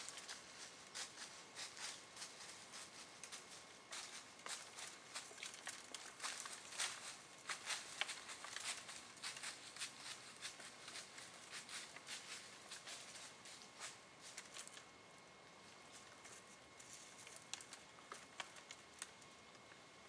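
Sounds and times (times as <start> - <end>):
twigs and leaves rustling and clicking: 0.0 - 15.0, 15.7 - 19.8.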